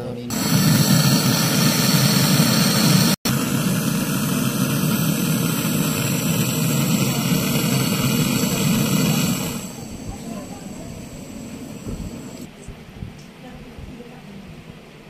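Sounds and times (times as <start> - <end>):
gas torch flame hissing: 0.3 - 12.5.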